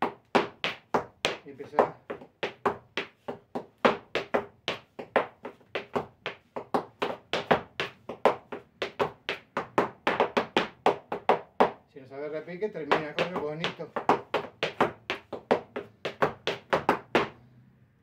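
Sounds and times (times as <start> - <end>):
boot heel strikes on hard floor: 0.0 - 11.8, 12.8 - 17.3.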